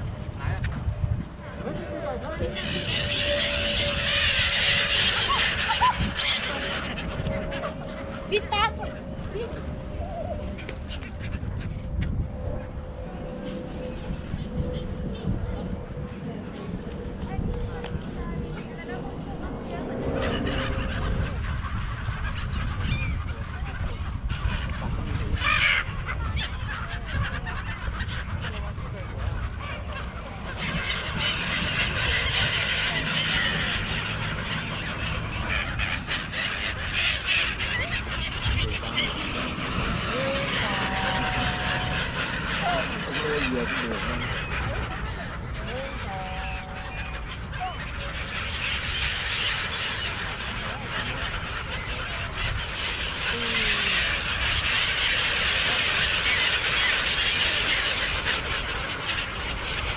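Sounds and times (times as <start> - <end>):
steady low rumble: 0.0 - 56.4
flock of gulls calling: 0.0 - 59.9.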